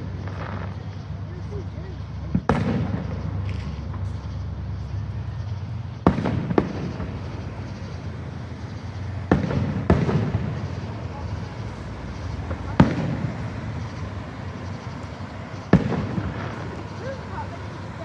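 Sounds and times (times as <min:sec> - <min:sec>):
fireworks bangs: 0:00.0 - 0:18.0
low background hum: 0:00.0 - 0:18.0
rumbling echo: 0:00.0 - 0:18.0.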